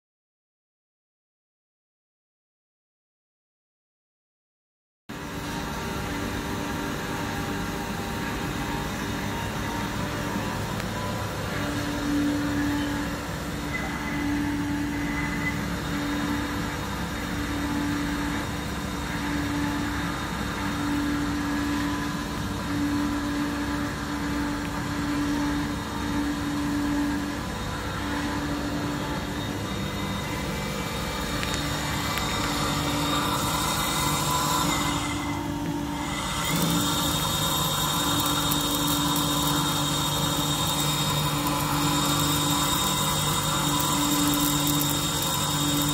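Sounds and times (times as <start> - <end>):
machine hum and hiss: 5.1 - 45.9
low pulsing tone: 7.4 - 45.2.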